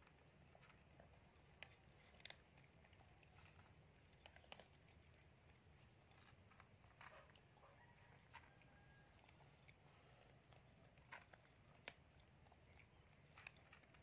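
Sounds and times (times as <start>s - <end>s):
cats chewing food: 0.0s - 14.0s.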